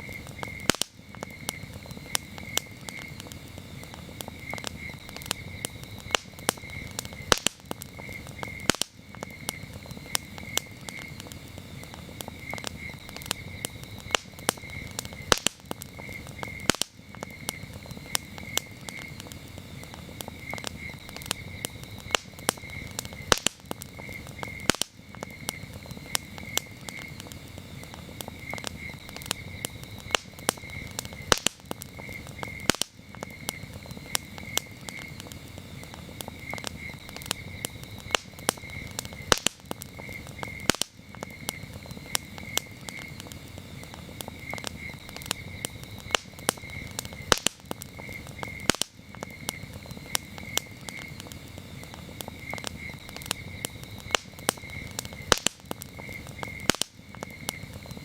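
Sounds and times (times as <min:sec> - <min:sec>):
campfire crackling and popping: 0:00.0 - 0:58.0
crickets chirping: 0:00.0 - 0:58.0.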